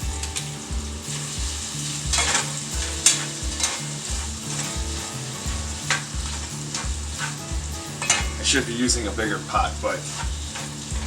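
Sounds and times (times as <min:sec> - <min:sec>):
utensil scraping pot: 0:00.0 - 0:11.0
vegetables sizzling in hot oil: 0:00.0 - 0:11.0.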